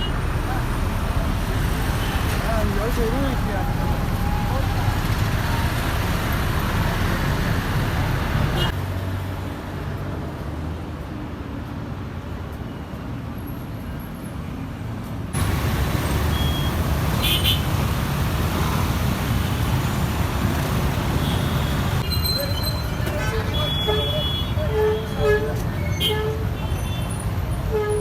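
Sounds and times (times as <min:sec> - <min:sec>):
traffic engines rumbling: 0:00.0 - 0:28.0.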